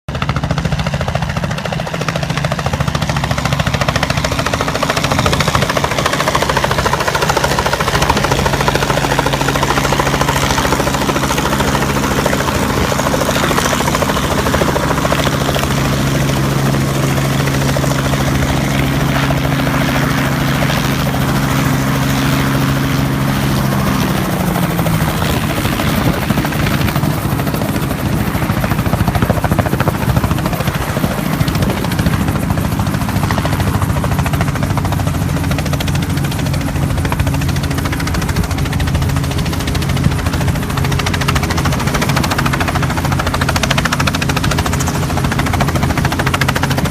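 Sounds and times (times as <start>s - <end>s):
helicopter rotor and engine: 0.1s - 46.9s.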